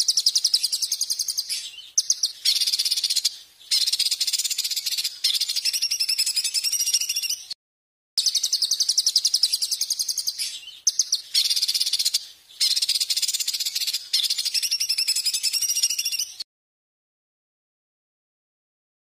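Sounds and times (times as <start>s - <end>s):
songbird trilling: 0.0s - 7.6s, 8.2s - 16.4s.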